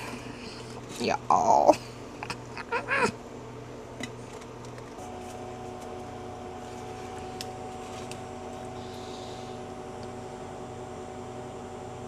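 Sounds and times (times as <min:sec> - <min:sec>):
electric machine hum: 0:00.0 - 0:12.0.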